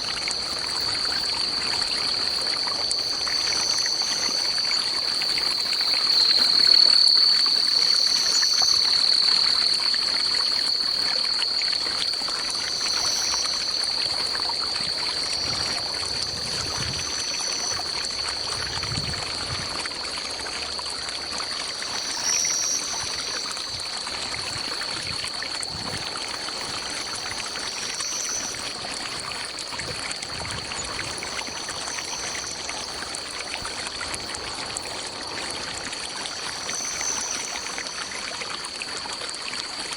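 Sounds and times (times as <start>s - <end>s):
high-pitched insect drone: 0.0s - 38.8s
trickling stream: 0.0s - 39.9s.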